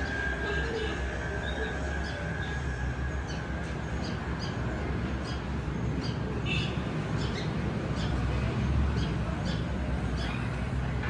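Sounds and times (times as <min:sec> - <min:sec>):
sparrows chirping: 0:00.0 - 0:10.9.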